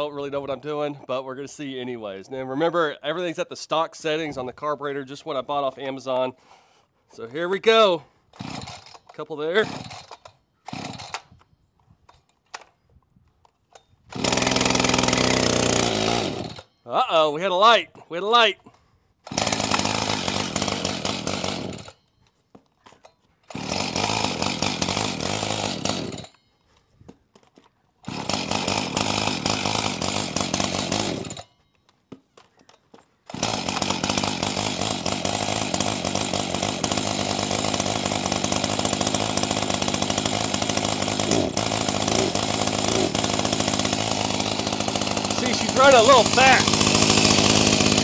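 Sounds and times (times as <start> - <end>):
chainsaw engine starting and running: 0.0 - 12.7, 13.4 - 48.0.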